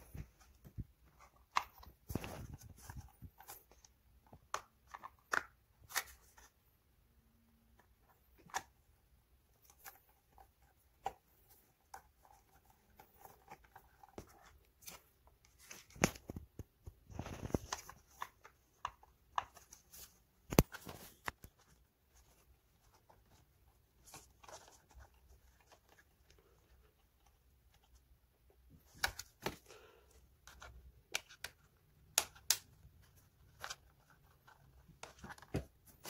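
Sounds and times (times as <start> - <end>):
plastic parts being handled: 0.0 - 6.6, 7.7 - 36.0.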